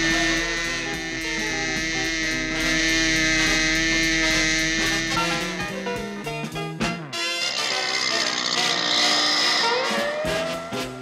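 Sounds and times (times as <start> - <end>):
cartoon music with long held notes: 0.0 - 11.0.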